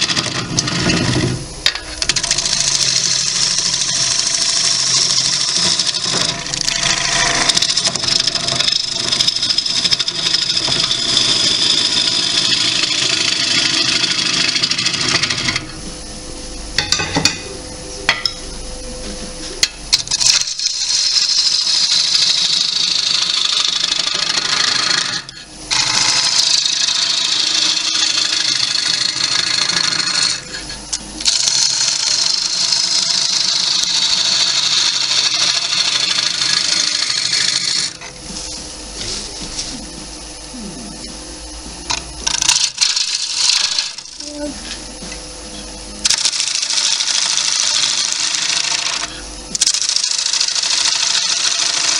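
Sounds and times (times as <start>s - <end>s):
lathe tool shearing wood: 0.0s - 15.8s, 19.9s - 39.3s, 42.0s - 45.0s, 46.0s - 51.9s
lathe running hum: 0.0s - 51.9s.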